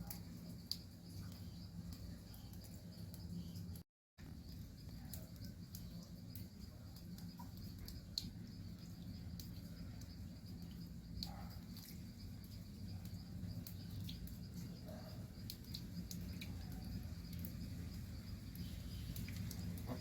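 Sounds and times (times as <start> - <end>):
insects chirring: 0.0 - 20.0
steady low hum: 0.0 - 20.0.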